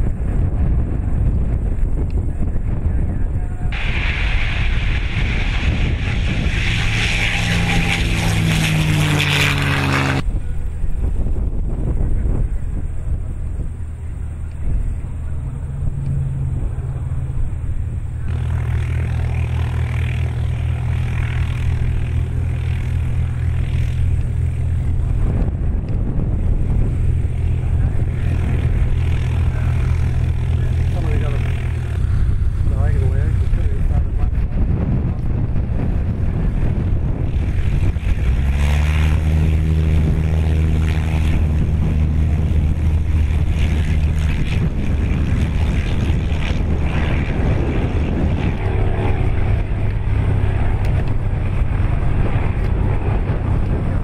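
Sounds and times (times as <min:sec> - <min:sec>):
light aircraft engine droning: 0:00.0 - 0:54.0
wind on microphone: 0:00.0 - 0:54.0.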